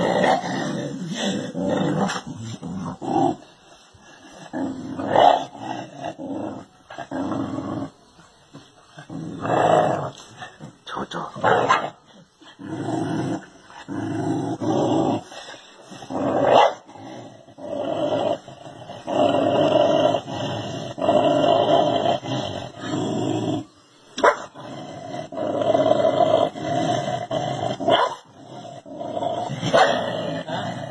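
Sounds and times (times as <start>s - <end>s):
dog growling: 0.0s - 23.7s, 24.5s - 30.9s.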